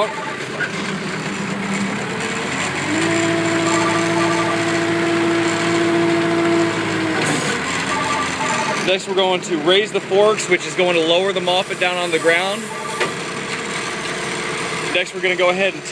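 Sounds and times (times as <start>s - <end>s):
hydraulic whine: 0.0s - 14.9s
forklift engine running: 0.0s - 15.9s.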